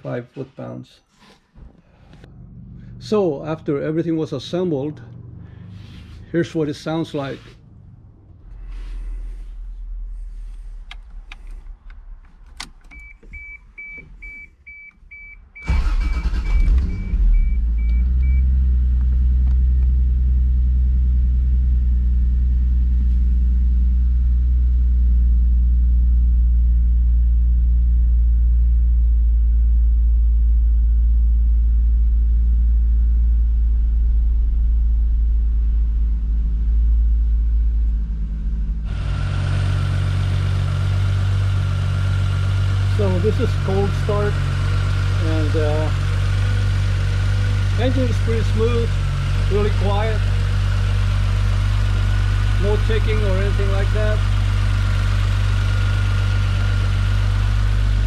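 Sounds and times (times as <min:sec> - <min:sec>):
car engine starting and idling: 0:01.2 - 0:58.0.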